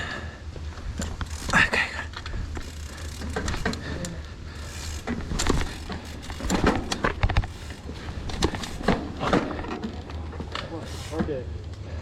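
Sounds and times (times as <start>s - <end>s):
mountain bike knocking on rocks: 0.6s - 4.0s, 4.6s - 11.4s.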